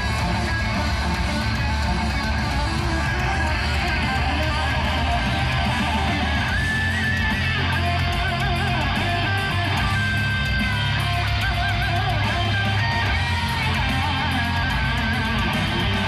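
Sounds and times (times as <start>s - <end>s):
electric guitar lead notes: 0.0s - 16.0s.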